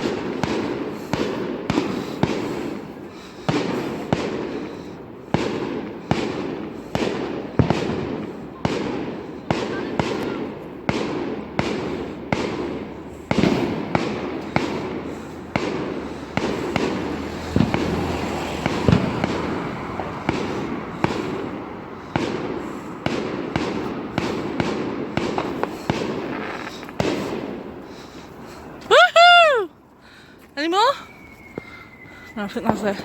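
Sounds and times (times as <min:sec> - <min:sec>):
fireworks banging with echo: 0:00.0 - 0:33.0.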